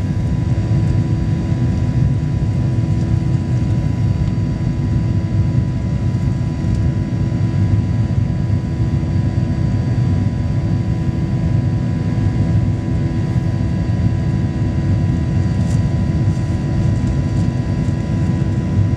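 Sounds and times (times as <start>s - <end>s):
faint steady whine: 0.0s - 18.9s
jet engine rumble: 0.0s - 18.9s.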